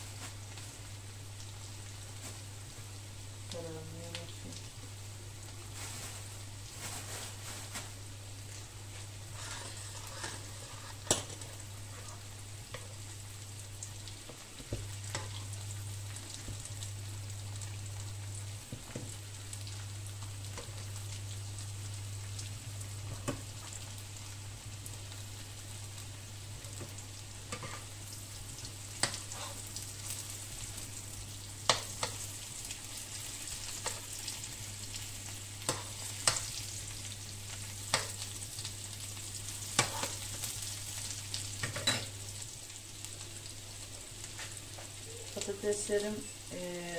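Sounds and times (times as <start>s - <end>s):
potatoes sizzling in a pan: 0.0s - 46.9s.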